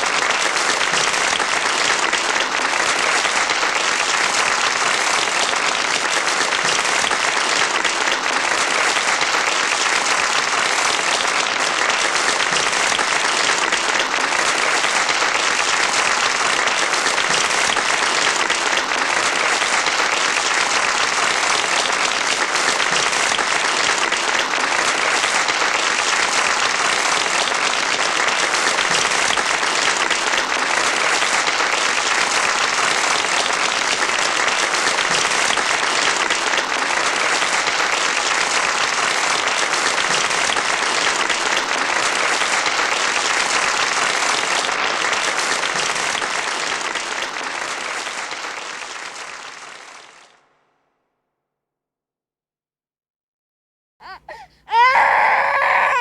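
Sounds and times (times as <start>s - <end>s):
large audience applauding: 0.0s - 50.4s, 54.0s - 56.0s.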